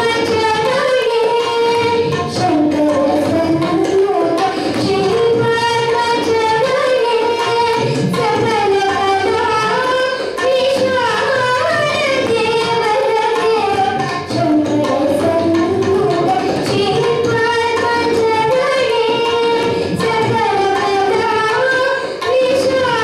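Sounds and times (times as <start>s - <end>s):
boy singing ornamented notes: 0.0s - 23.0s
tabla: 0.0s - 23.0s.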